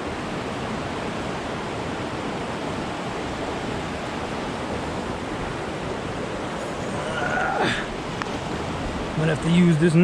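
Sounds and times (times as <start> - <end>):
fast-flowing river water: 0.0 - 10.0.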